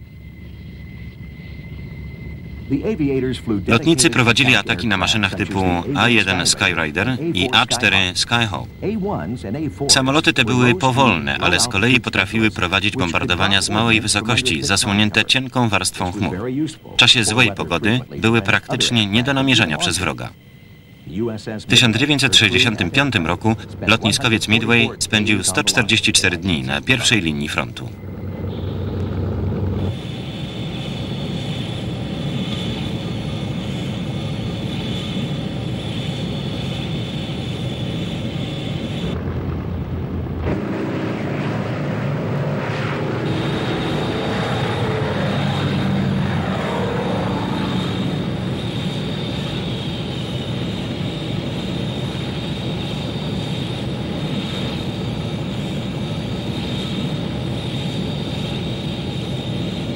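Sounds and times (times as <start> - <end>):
aircraft passing by: 0.0 - 59.9
continuous engine rumble: 0.0 - 59.9
jet engine high whine: 0.0 - 59.9.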